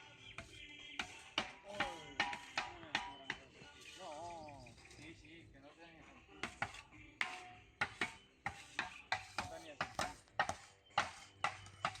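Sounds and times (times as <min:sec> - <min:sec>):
shovel scraping packed dirt: 0:00.5 - 0:05.2, 0:06.5 - 0:12.0.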